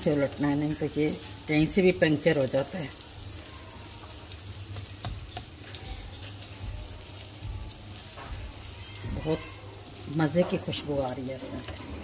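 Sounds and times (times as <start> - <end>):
flatbread sizzling in oil: 0.0 - 12.0.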